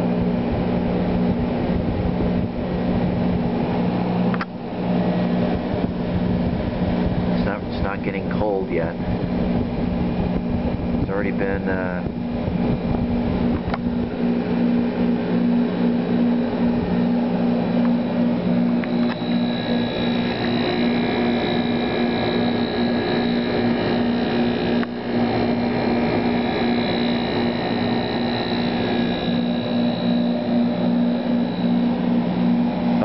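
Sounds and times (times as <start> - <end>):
air conditioner running: 0.0 - 33.0
faint high whine: 0.0 - 33.0.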